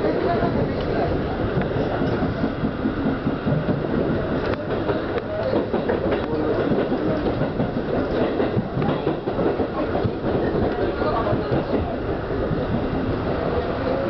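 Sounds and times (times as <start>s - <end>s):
train wheels and motors rumbling: 0.0s - 14.0s
wheels clicking over rail joints: 0.8s - 14.0s.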